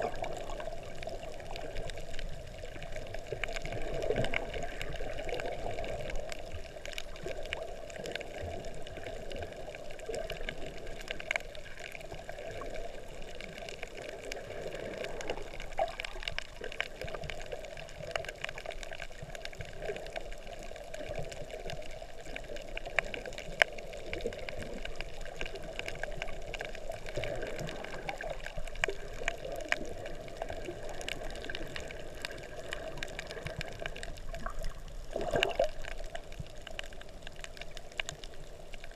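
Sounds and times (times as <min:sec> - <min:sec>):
faint crackling clicks: 0:00.0 - 0:38.9
muffled underwater wash: 0:00.0 - 0:38.9.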